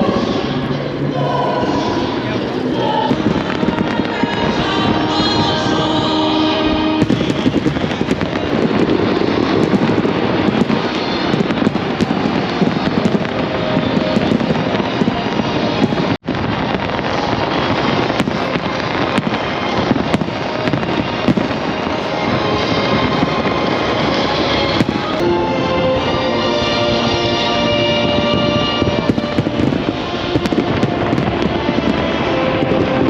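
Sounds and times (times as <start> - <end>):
fireworks bursting and crackling: 0.0 - 33.0
music playing: 0.0 - 33.0.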